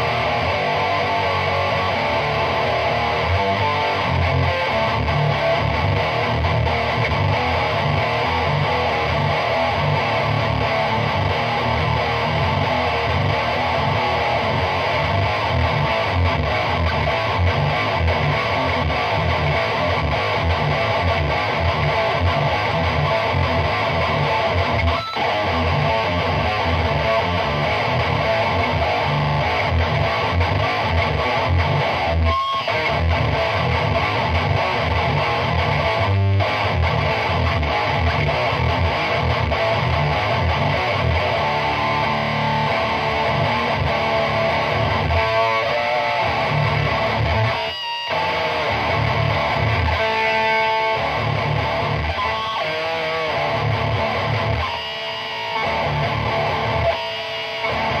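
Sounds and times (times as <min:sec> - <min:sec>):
heavily distorted electric guitar riffing: 0:00.0 - 0:58.0.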